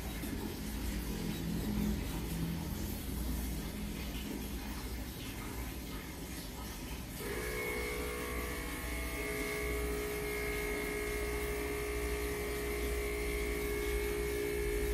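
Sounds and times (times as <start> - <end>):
electrical hum: 0.0 - 14.9.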